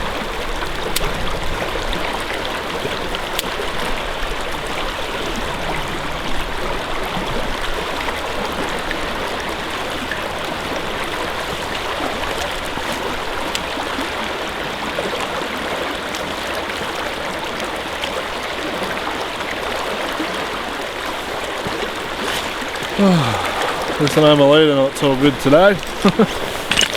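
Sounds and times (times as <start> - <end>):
creek water running over rocks: 0.0 - 26.9.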